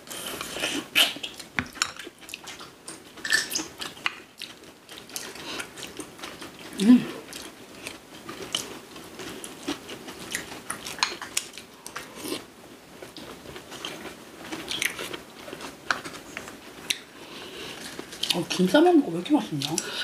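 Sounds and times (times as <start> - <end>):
people chewing crunchy food: 0.0 - 18.7, 19.3 - 20.0.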